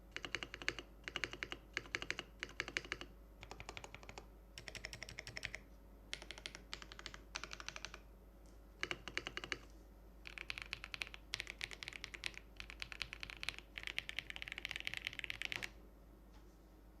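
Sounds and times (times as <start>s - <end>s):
mechanical keyboard typing: 0.1s - 8.0s, 8.8s - 15.8s.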